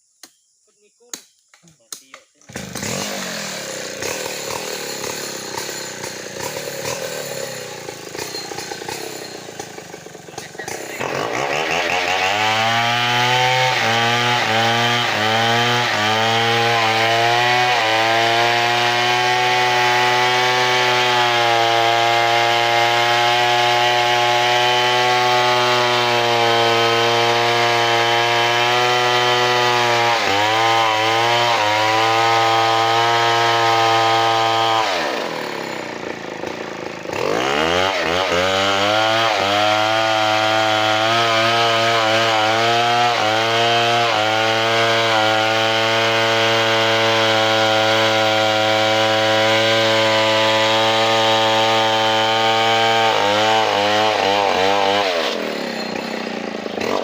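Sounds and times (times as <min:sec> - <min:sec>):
chainsaw sawing timber: 0:02.0 - 0:57.0.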